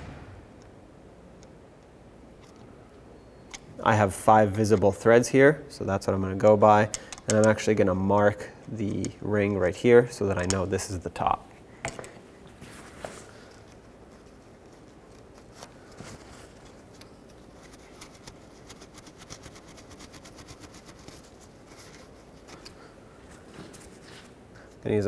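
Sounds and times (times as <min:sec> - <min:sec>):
low steady background hiss: 0:00.0 - 0:25.0.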